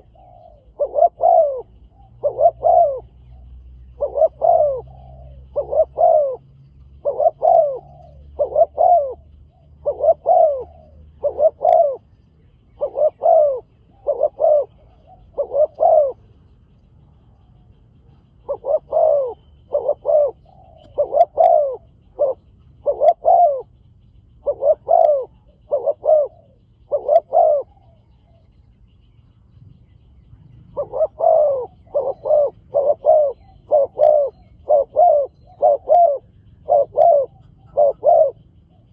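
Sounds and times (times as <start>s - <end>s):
dove cooing: 0.0s - 29.0s, 29.8s - 38.9s.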